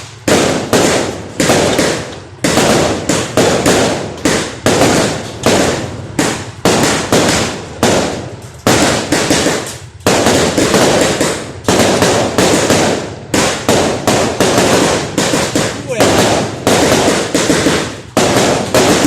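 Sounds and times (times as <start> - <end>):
fireworks bangs with crackling: 0.0 - 19.0.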